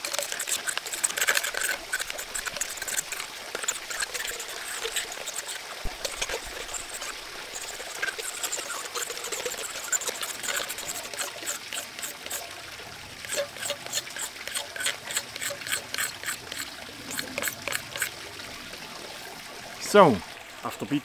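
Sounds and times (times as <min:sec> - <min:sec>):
knife blade scraping horn: 0:00.1 - 0:12.5, 0:13.2 - 0:18.1.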